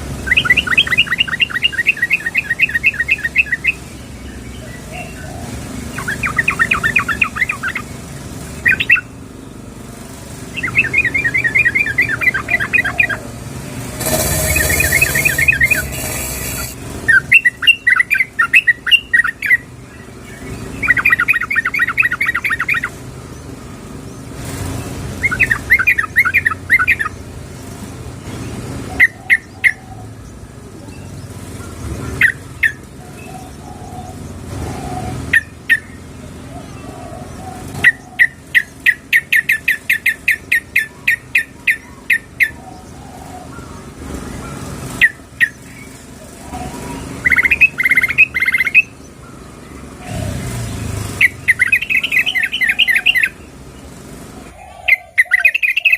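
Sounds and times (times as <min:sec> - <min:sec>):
bird calling in rapid trills: 0:00.0 - 0:23.1, 0:25.1 - 0:27.3, 0:28.8 - 0:30.2, 0:31.7 - 0:53.6, 0:54.4 - 0:55.9.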